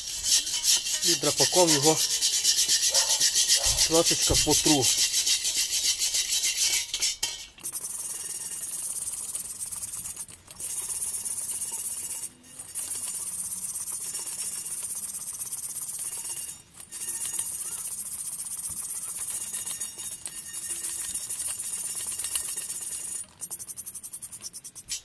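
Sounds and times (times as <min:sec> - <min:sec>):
stiff brush scrubbing iron pot: 0:00.0 - 0:25.0.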